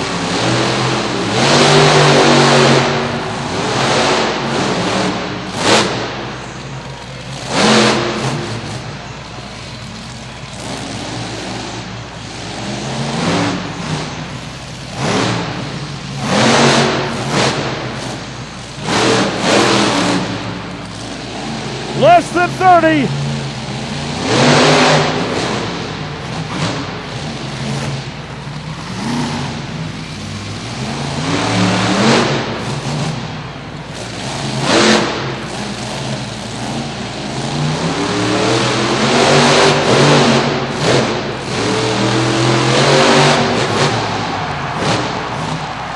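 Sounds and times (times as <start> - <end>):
monster truck engine revving: 0.0 - 45.9.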